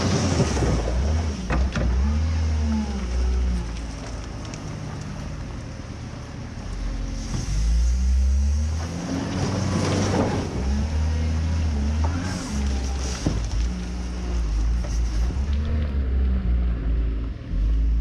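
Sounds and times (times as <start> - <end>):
diesel engine under load: 0.0 - 18.0.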